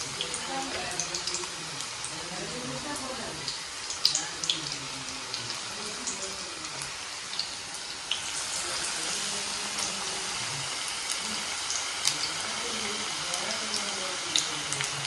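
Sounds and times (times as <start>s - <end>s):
vegetables deep-frying in hot oil: 0.0s - 15.0s.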